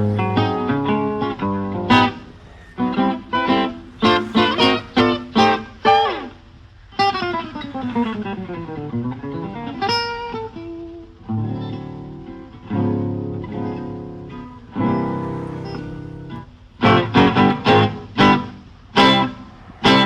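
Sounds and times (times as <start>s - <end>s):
guitar playing: 0.0s - 20.0s.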